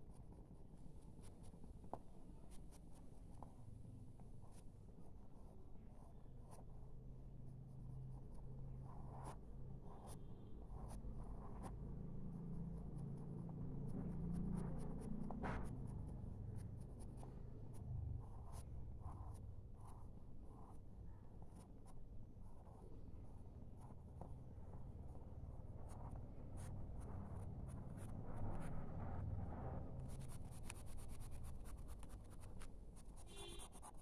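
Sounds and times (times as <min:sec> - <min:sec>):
pen scratching on paper: 0:00.1 - 0:03.6, 0:04.2 - 0:06.8, 0:08.0 - 0:34.0.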